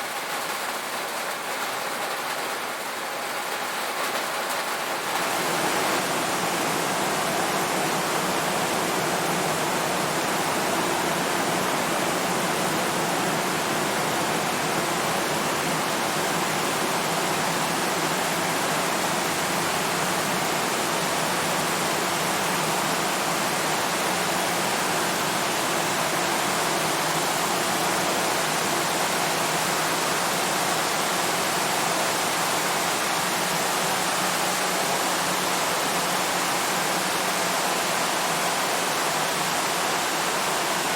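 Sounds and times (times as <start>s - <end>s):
rain on a tin roof: 0.0s - 40.9s.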